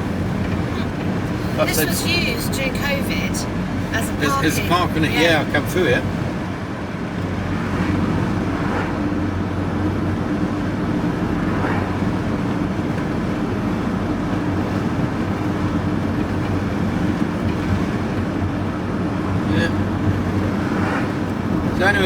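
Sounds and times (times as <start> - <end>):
van engine and tyre drone: 0.0 - 22.0.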